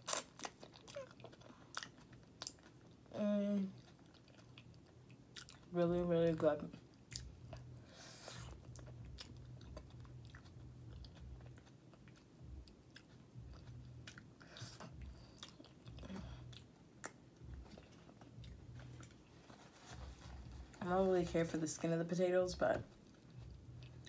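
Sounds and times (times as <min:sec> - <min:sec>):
person chewing soft food: 0:00.0 - 0:05.7, 0:06.8 - 0:20.8, 0:22.9 - 0:24.0.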